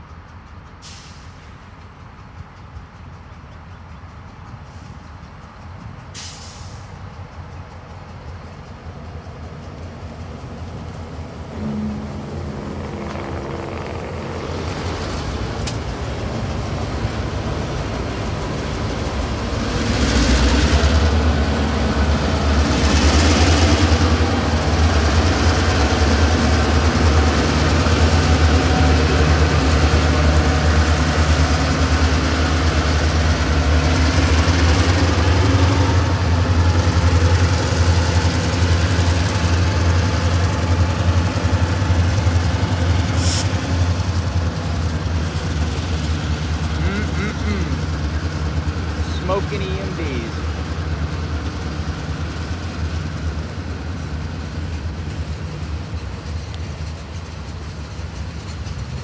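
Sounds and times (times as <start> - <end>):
locomotive diesel engines droning: 0.0 - 59.0.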